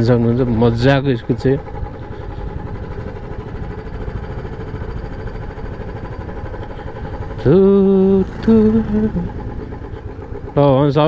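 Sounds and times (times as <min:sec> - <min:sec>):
motorcycle engine and road noise: 0:00.0 - 0:11.0.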